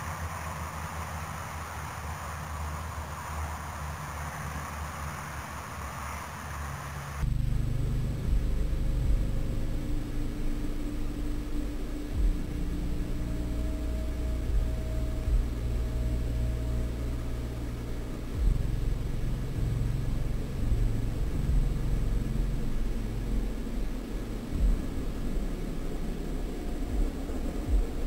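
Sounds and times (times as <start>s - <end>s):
faint hiss: 0.0s - 28.0s
steady low rumble: 0.0s - 28.0s
thin steady hum: 0.0s - 28.0s.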